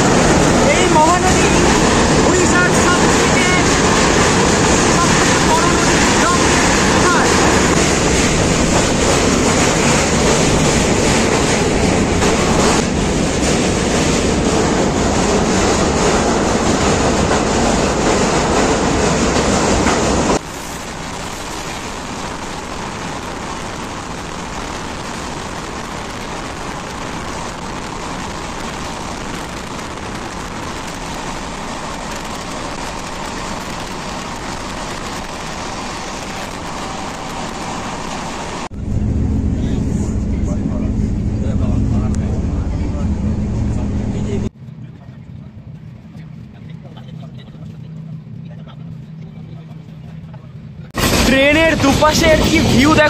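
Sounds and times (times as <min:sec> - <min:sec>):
passenger train running: 0:00.0 - 0:53.0.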